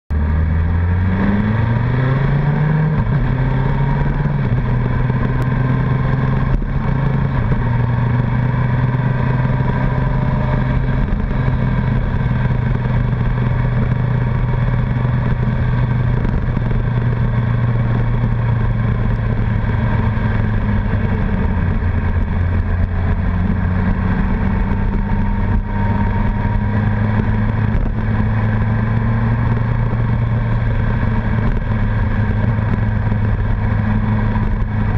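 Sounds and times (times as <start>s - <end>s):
motorcycle engine revving: 0.1s - 34.9s
wind and road rush: 0.1s - 34.9s.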